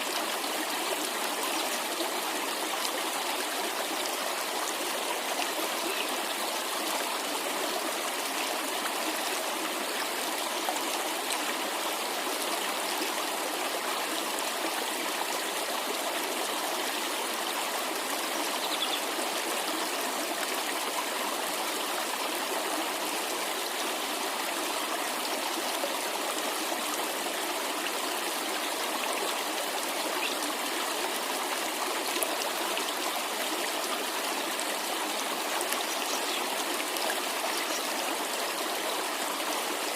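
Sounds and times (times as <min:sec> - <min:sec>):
cascading water rushing: 0:00.0 - 0:39.9.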